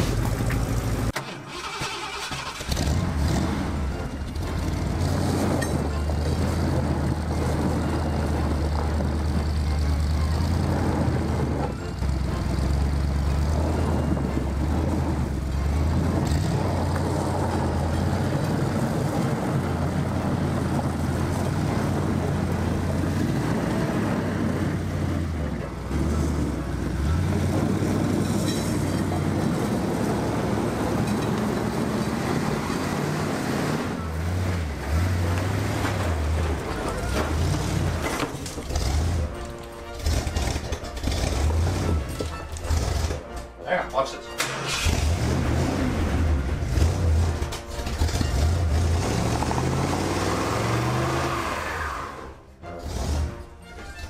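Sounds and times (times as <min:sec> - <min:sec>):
truck engine revving: 0:00.0 - 0:43.6, 0:44.2 - 0:54.0.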